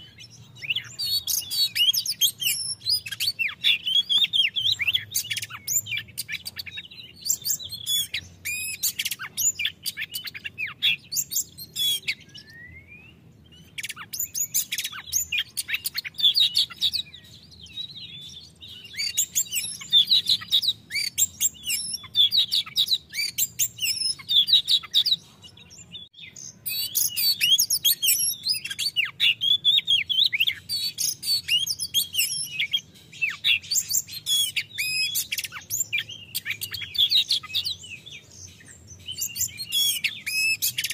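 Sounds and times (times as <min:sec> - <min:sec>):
songbird singing whistles and chirps: 0:00.0 - 0:40.9.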